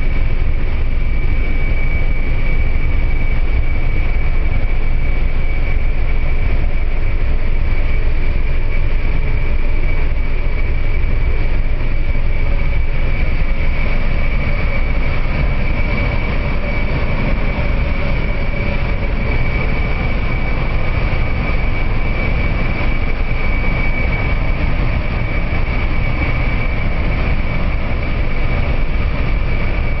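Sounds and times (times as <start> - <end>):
aircraft high whine: 0.0 - 30.0
aircraft low rumble: 0.0 - 30.0.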